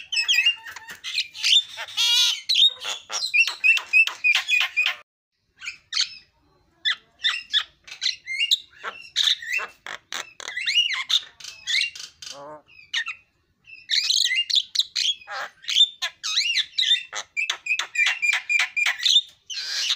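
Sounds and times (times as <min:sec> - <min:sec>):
bird whistling and chattering: 0:00.0 - 0:05.0, 0:06.9 - 0:19.9.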